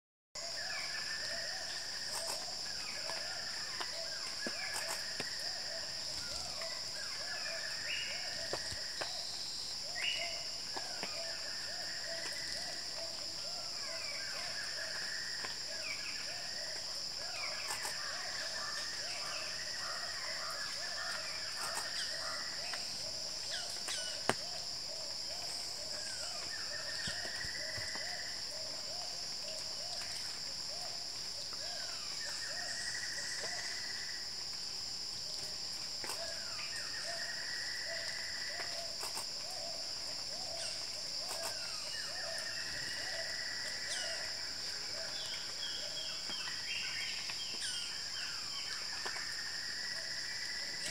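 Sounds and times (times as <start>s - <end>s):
insects droning: 0.4s - 50.9s.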